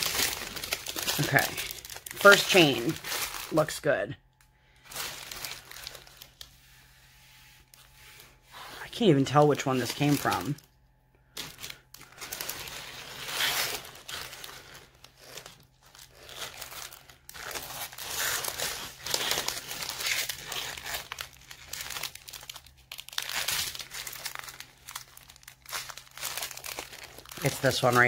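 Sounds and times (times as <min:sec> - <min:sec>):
plastic bags crinkling: 0:00.0 - 0:06.6, 0:07.6 - 0:10.7, 0:11.3 - 0:28.0.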